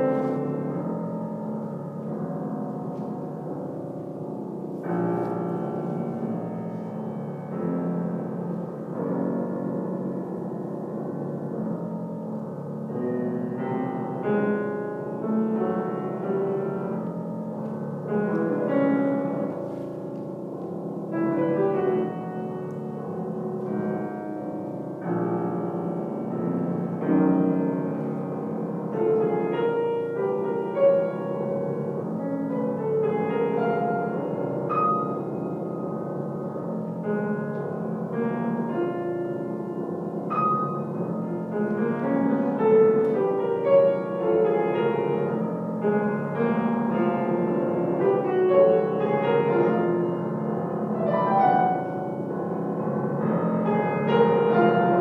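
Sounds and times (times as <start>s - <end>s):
slow solo piano chords: 0.0s - 55.0s.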